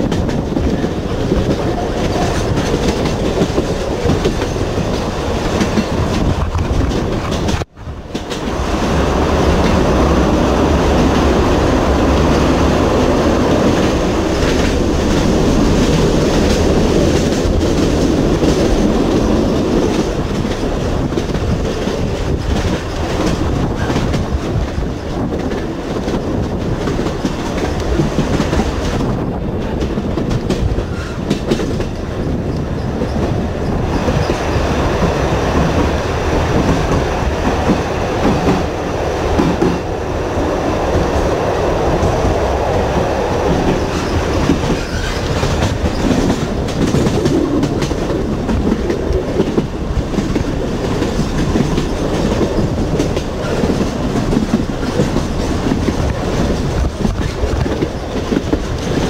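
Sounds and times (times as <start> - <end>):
electric train rumbling on track: 0.0 - 59.0.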